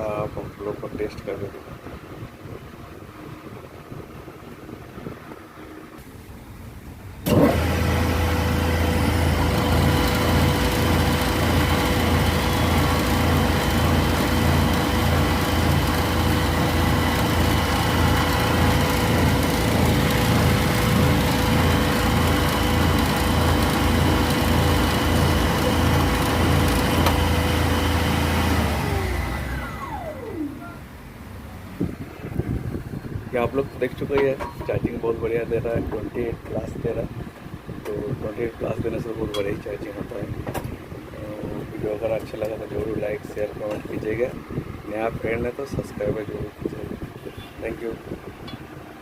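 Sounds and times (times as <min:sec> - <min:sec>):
alternator whine: 0:00.0 - 0:49.0.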